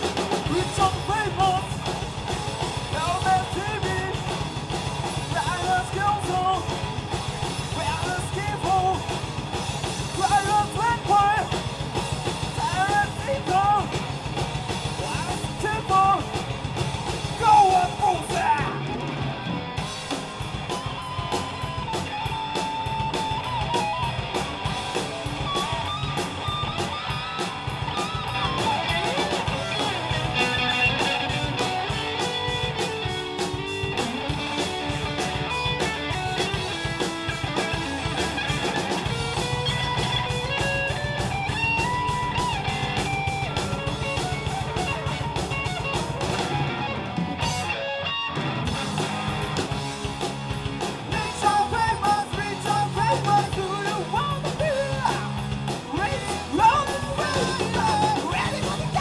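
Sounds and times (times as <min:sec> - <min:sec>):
bass guitar: 0:00.0 - 0:59.0
chugging rhythm guitar: 0:00.0 - 0:59.0
lead electric guitar bending: 0:00.0 - 0:59.0
steady drum beat: 0:00.0 - 0:59.0.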